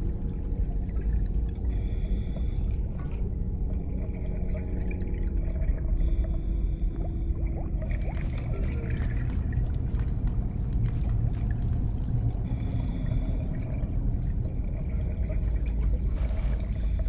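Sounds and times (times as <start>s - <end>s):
low underwater rumble: 0.0s - 17.0s.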